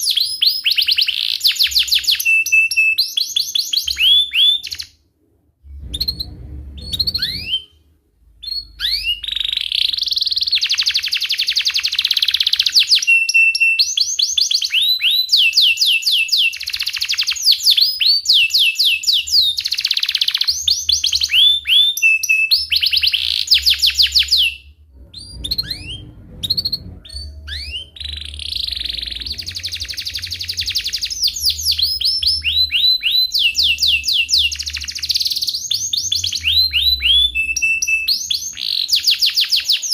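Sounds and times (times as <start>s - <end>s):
canary singing trills: 5.8s - 7.8s, 8.4s - 39.9s.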